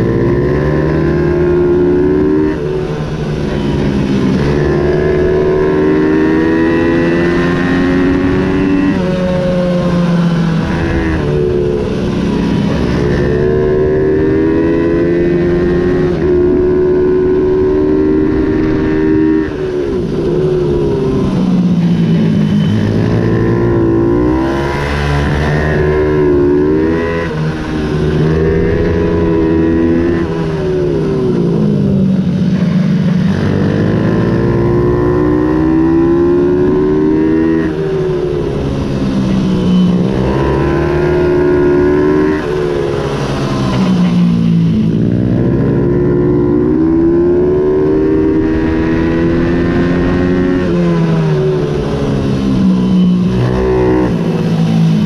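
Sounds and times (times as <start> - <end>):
minibike engine revving: 0.0 - 55.0.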